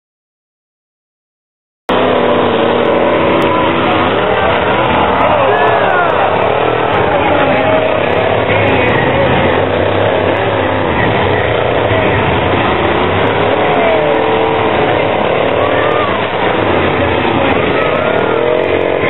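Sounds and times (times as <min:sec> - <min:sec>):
crowd noise: 0:01.9 - 0:19.0
truck engines revving: 0:01.9 - 0:19.0.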